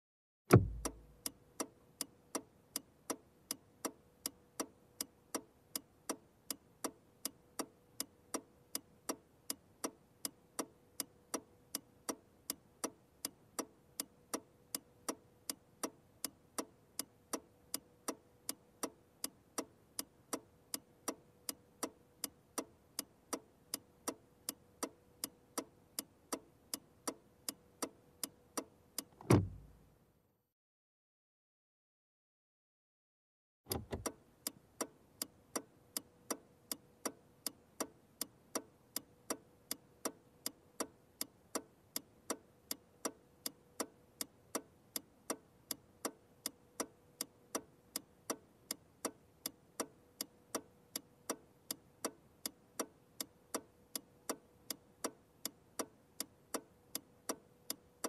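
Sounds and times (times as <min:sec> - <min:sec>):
turn signal ticking: 0:00.5 - 0:29.8, 0:33.7 - 0:57.8.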